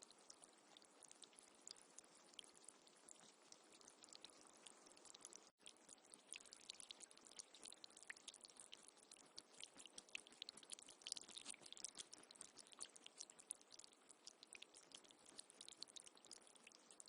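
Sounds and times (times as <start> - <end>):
faint trickling water: 0.0 - 17.0
water drips and splashes: 0.0 - 17.0.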